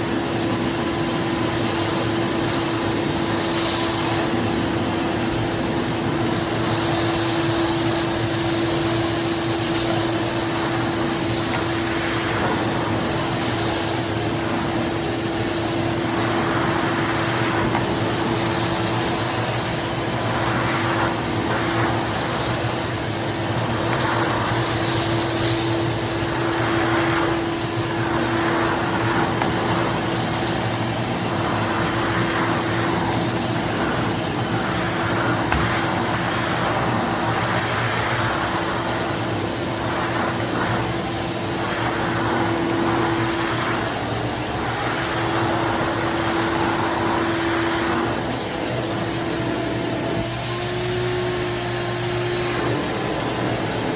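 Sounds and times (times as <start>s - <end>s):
shop vacuum running: 0.0s - 53.9s.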